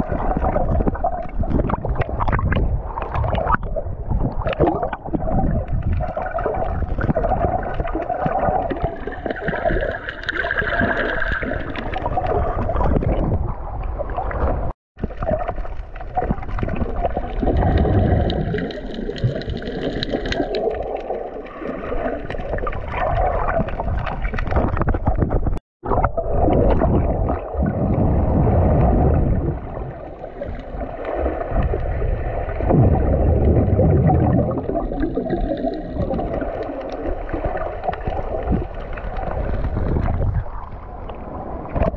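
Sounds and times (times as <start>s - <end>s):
underwater rumble and sloshing: 0.0s - 41.9s.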